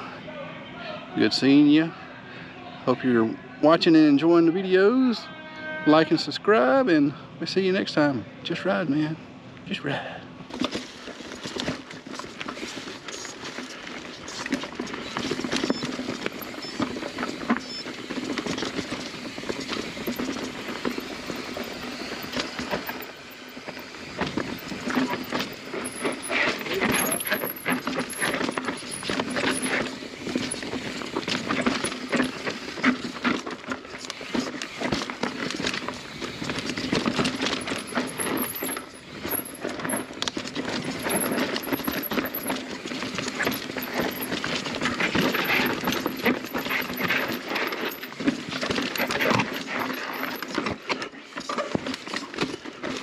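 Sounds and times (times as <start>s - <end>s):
bike chain and frame clatter: 10.5s - 53.0s
bike tyres rattling over rocks: 10.5s - 53.0s.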